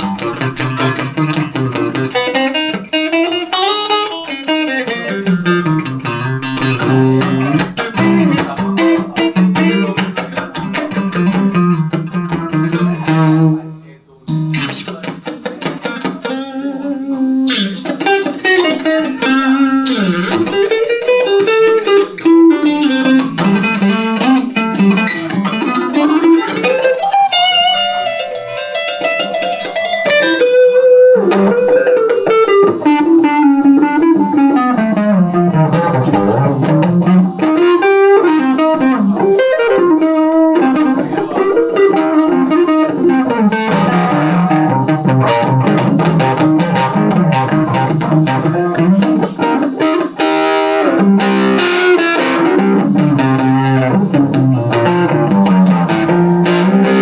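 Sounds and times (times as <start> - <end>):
electric guitar solo: 0.0 - 57.0.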